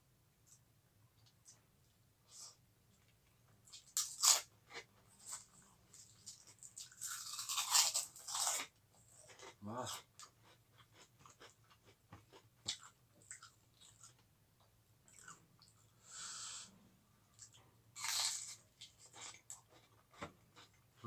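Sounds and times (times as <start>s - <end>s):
chewing crisp food: 2.3s - 15.9s, 17.3s - 21.0s.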